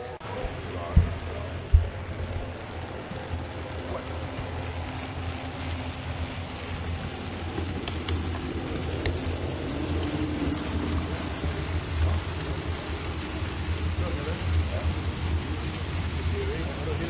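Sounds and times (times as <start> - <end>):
model train rolling on track: 0.0 - 17.0
steady low hum: 0.0 - 17.0.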